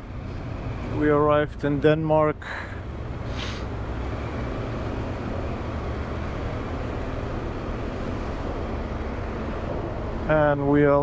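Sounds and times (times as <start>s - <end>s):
engines idling low rumble: 0.0s - 11.0s.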